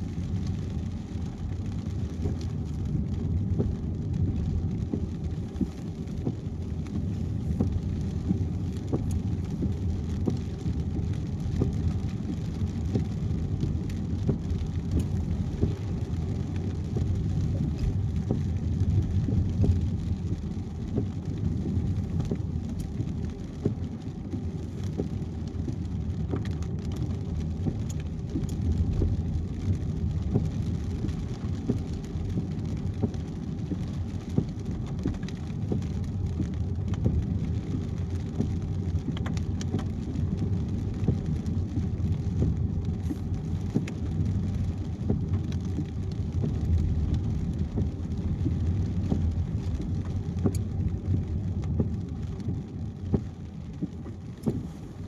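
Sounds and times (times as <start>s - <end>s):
raindrops ticking: 0.0s - 55.0s
road and tyre rumble: 0.0s - 55.0s.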